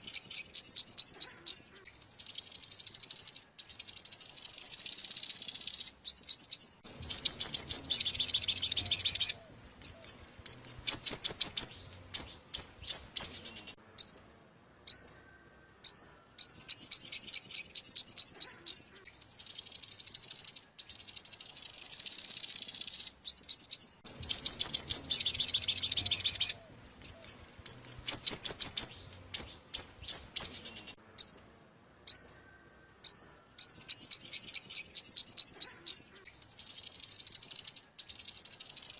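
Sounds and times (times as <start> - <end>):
bird twittering trills: 0.0 - 38.9.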